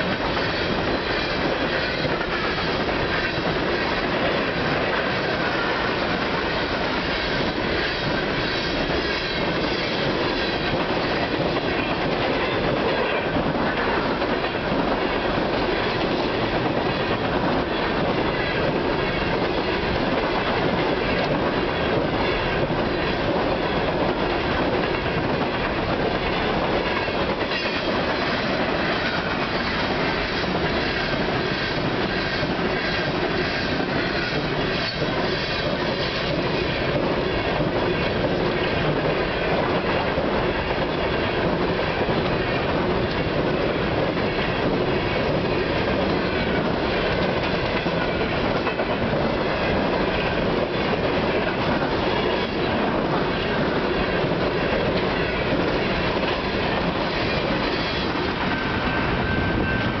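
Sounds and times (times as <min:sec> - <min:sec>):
steel wheels rumbling on rail: 0:00.0 - 1:00.0.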